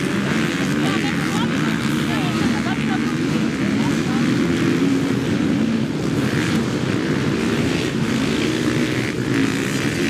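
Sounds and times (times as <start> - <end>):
motorcycle engines droning: 0.0 - 10.0.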